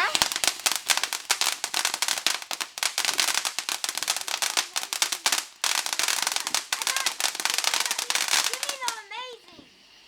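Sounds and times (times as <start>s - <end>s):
firework crackling: 0.0s - 9.6s.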